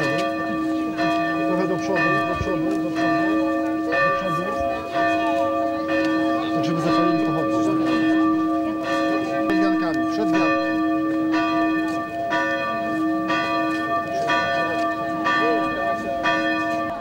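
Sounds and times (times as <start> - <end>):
crowd voices murmuring: 0.0 - 11.3, 12.1 - 17.0
church bells ringing: 0.0 - 17.0.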